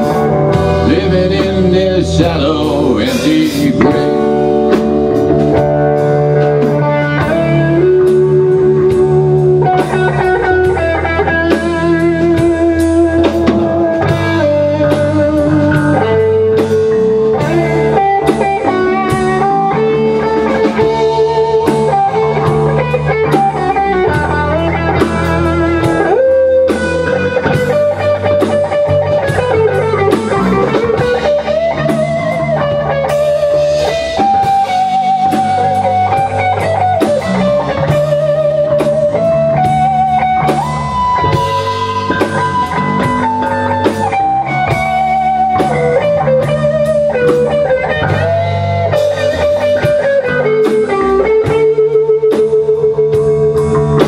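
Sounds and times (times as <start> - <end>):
drum kit playing: 0.0 - 54.0
lead electric guitar: 0.0 - 54.0
rhythm guitar: 0.0 - 54.0.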